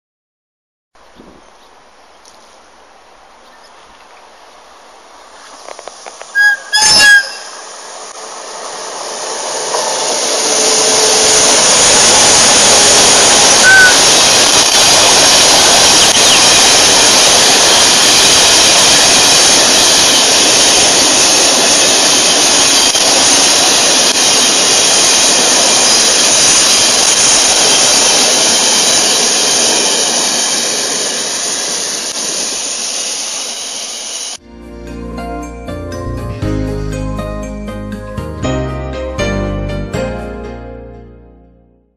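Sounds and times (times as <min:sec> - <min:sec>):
passing train rushing rolling noise: 0:04.3 - 0:38.0.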